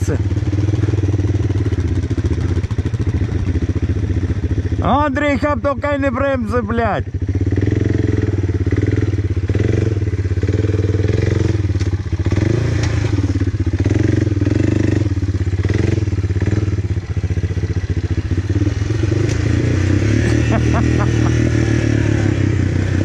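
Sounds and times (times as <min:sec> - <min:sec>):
quad bike engine running: 0:00.0 - 0:23.0.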